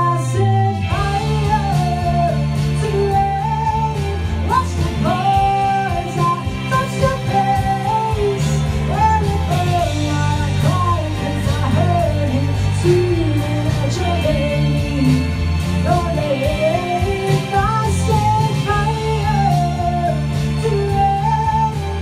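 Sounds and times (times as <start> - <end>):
pop backing track: 0.0 - 22.0
woman singing into microphone: 0.0 - 22.0.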